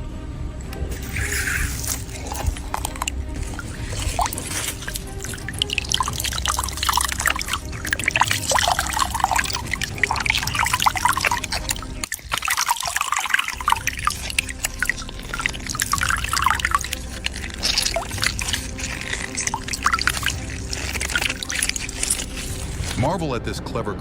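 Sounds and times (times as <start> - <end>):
water trickling and dripping: 0.8 - 23.0.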